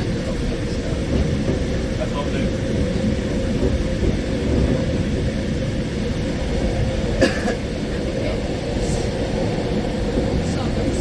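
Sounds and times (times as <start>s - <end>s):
electric train rumble: 0.0s - 11.0s.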